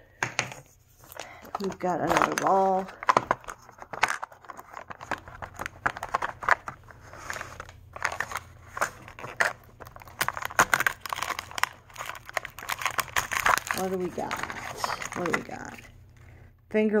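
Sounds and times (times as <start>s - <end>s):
plastic packaging crinkling and tearing: 1.0s - 16.3s.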